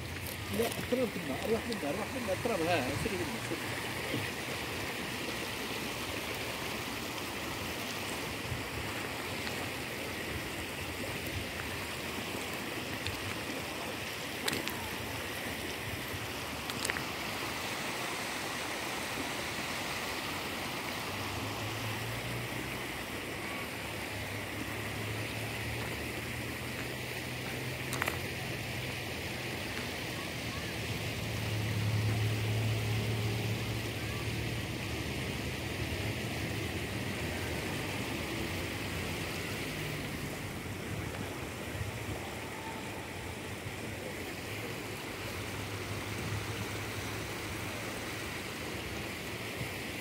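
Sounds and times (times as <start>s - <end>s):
water rushing over rocks: 0.0s - 50.0s.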